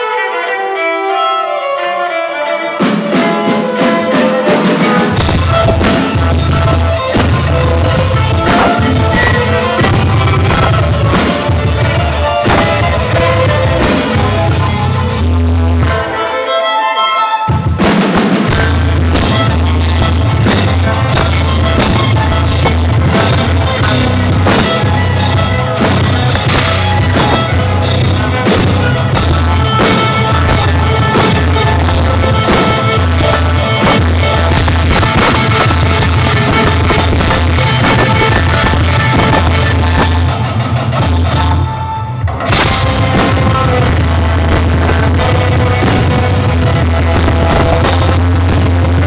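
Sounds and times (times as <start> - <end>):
live rock band playing: 0.0 - 49.0.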